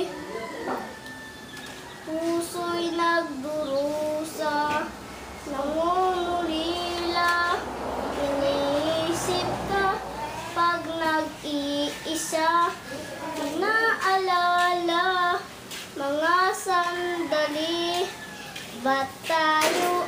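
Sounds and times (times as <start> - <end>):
boy singing unaccompanied: 2.0 - 20.0.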